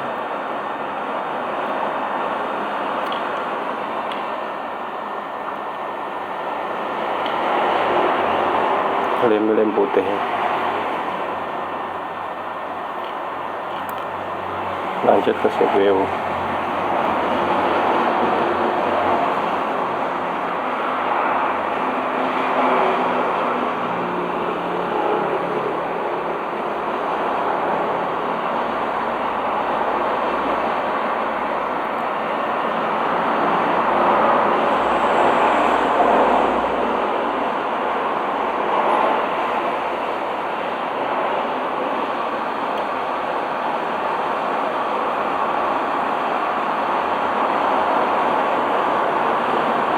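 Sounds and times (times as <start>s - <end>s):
hot air station hissing: 0.0s - 49.9s.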